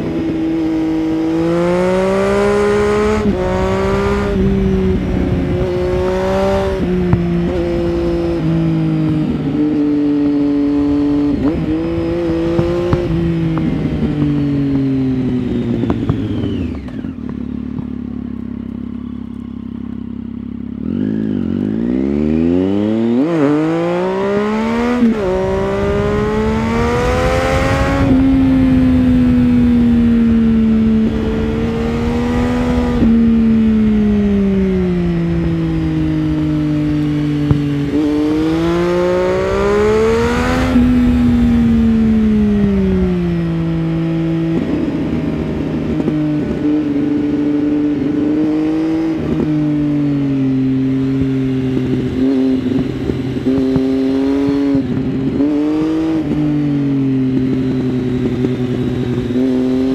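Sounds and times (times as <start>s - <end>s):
motorcycle engine revving and cruising: 0.0s - 59.9s.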